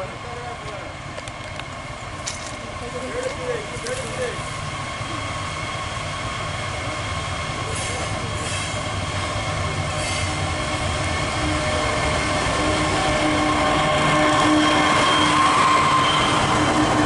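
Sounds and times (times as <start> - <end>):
freight train rumble: 0.0 - 17.0
high-pitched train tones: 2.7 - 17.0.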